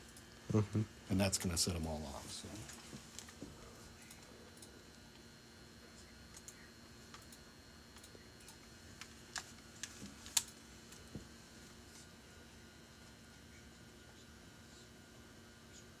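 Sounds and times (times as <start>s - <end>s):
faint equipment hum: 0.0s - 16.0s.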